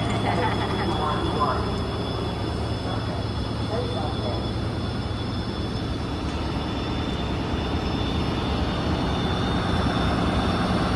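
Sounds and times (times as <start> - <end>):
diesel locomotive rumbling: 0.0 - 10.9.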